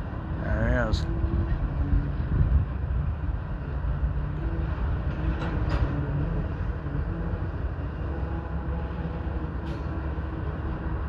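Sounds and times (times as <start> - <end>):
freight train wheels on rail: 0.0 - 11.0.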